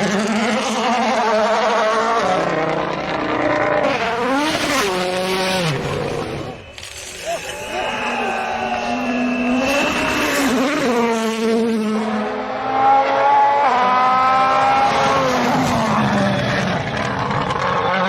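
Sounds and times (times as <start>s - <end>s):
rally car engine revving high: 0.0s - 6.7s, 8.8s - 18.0s.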